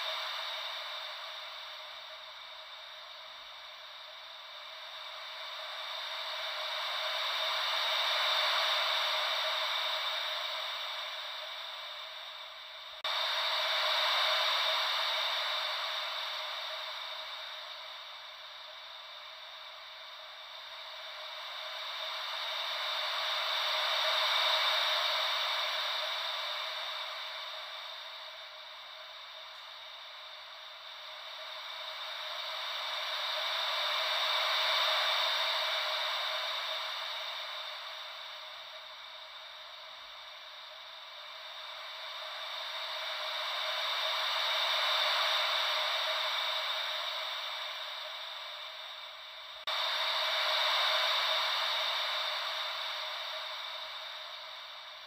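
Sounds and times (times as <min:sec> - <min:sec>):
ocean wave white noise hiss: 0:00.0 - 0:55.0.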